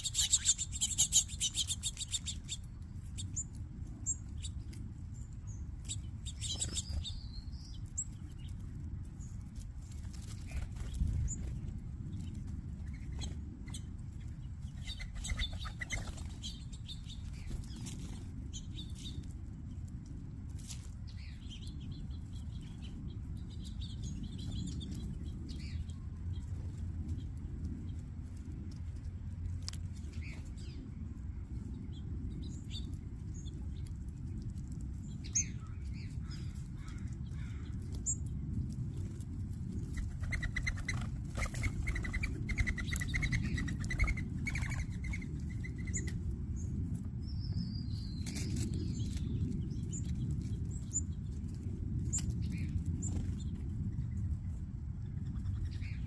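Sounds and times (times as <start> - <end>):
low rumble: 0.0 - 56.0
small birds chirping: 0.0 - 56.0.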